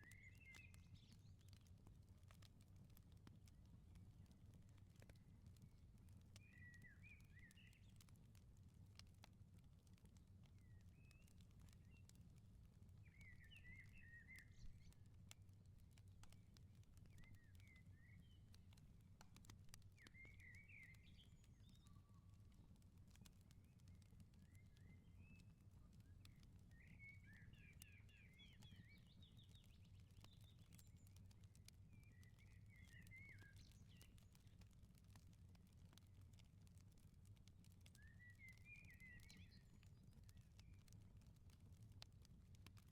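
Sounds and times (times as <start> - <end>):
songbirds chirping: 0.0 - 2.6, 4.7 - 8.4, 10.3 - 41.6
wood fire crackling: 0.0 - 42.9.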